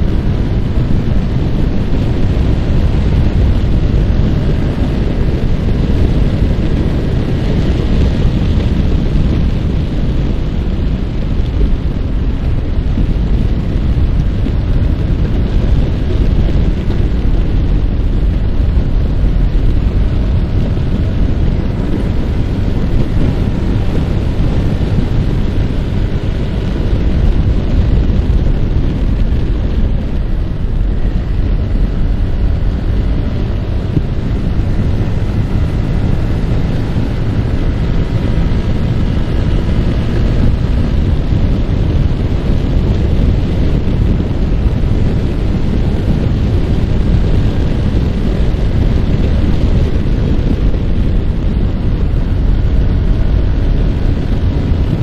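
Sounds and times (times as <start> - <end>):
motorcycle engine running: 0.0 - 55.0
wind buffeting microphone: 0.0 - 55.0.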